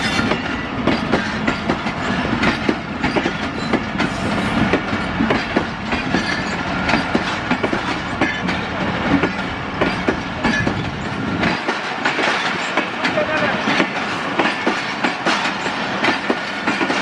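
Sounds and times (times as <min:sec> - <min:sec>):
train rolling rumble: 0:00.0 - 0:17.0
train wheels clacking over rail joints: 0:00.0 - 0:17.0.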